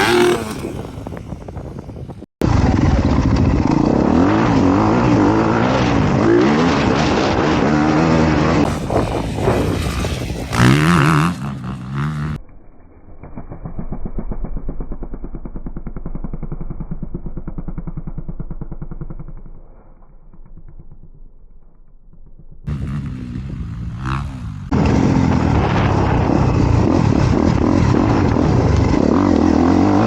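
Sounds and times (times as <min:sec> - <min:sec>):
motorcycle engine revving: 0:00.0 - 0:12.4, 0:13.6 - 0:19.8, 0:22.6 - 0:30.0.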